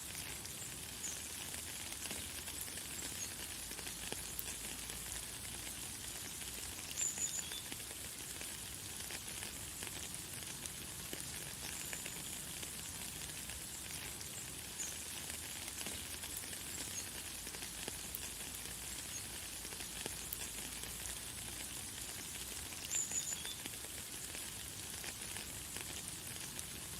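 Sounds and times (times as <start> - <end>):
light rain pattering: 0.0 - 26.9.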